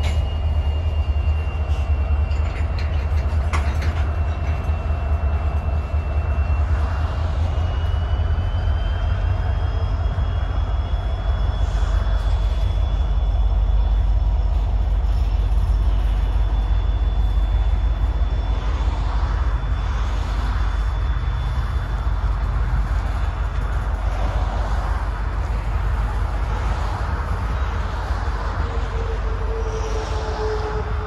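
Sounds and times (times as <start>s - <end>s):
high-pitched squeal: 0.0s - 31.0s
train wheels rumbling on rails: 0.0s - 31.0s.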